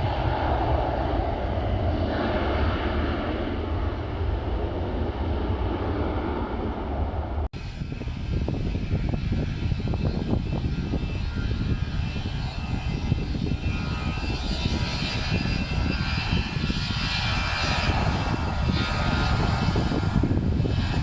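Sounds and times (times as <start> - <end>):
jet airliner engines passing: 0.0 - 21.0.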